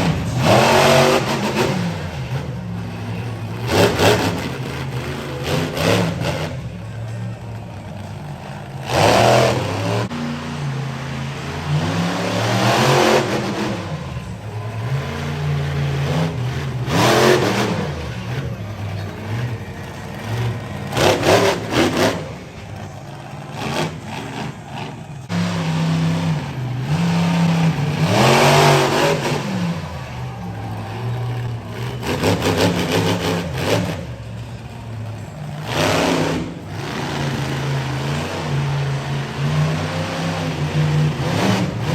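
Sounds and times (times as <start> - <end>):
monster truck engine revving: 0.0 - 41.9.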